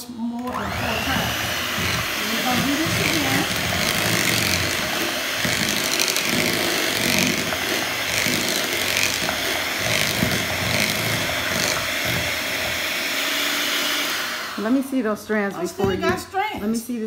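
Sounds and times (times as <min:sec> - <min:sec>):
electric hand mixer whipping: 0:00.0 - 0:16.2.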